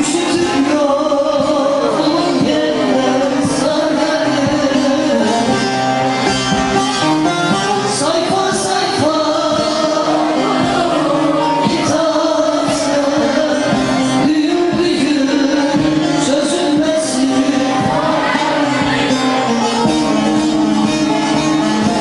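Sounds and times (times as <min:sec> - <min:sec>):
man singing: 0:00.0 - 0:06.3, 0:07.0 - 0:22.0
long-necked lutes playing: 0:00.0 - 0:22.0.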